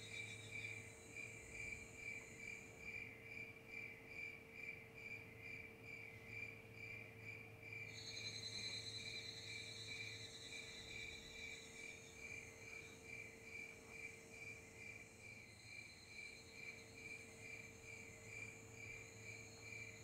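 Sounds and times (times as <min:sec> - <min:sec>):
higher steady insect trill: 0:00.0 - 0:20.0
insect chirring: 0:00.0 - 0:20.0
low steady hum: 0:00.0 - 0:20.0.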